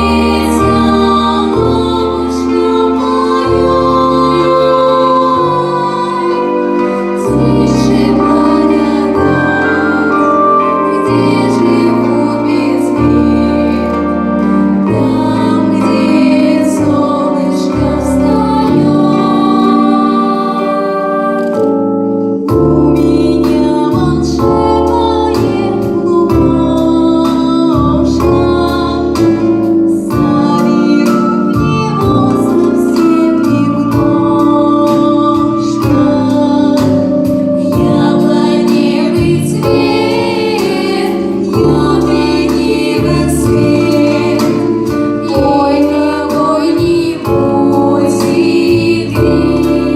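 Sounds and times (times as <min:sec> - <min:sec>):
instrumental accompaniment: 0:00.0 - 0:49.9
vocal group singing: 0:00.0 - 0:49.9.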